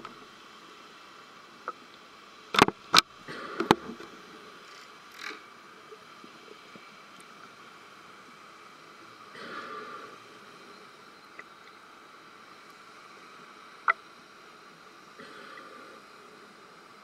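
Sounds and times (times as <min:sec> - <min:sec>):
underwater hiss: 0:03.2 - 0:17.0.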